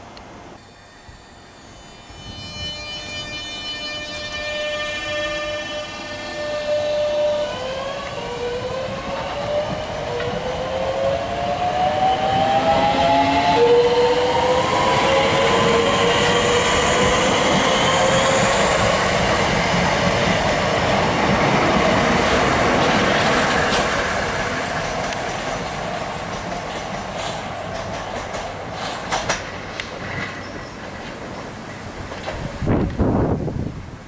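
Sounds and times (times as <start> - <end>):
train traction motors whining: 0.6 - 30.5
wheels rumbling on rails: 5.2 - 34.0.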